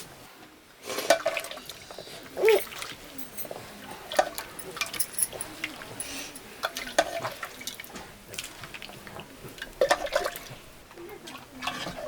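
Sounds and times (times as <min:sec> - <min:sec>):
clinks of dishes and utensils: 0:01.0 - 0:10.6, 0:11.2 - 0:12.0.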